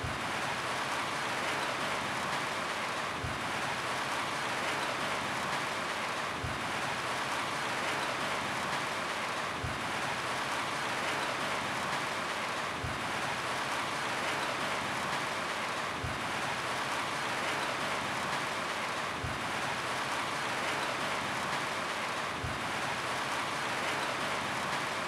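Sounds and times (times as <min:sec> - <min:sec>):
rain on a roof: 0:00.0 - 0:25.0.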